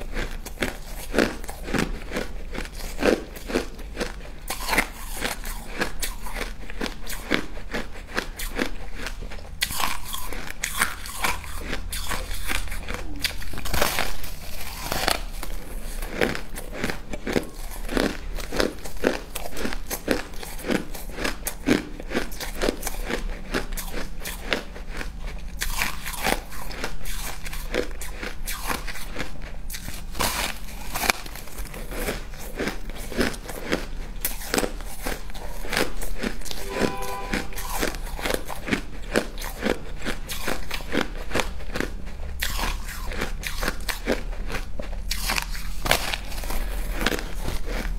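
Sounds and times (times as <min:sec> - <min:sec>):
ice crunching between teeth: 0:00.0 - 0:36.7, 0:37.4 - 0:47.9.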